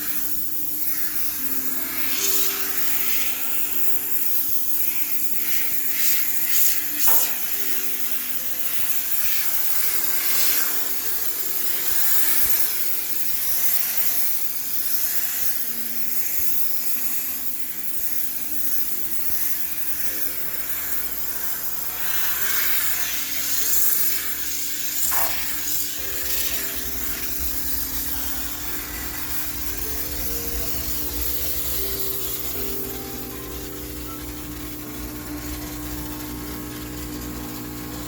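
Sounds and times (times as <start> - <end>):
steam cleaner spraying hiss: 0.0 - 38.0.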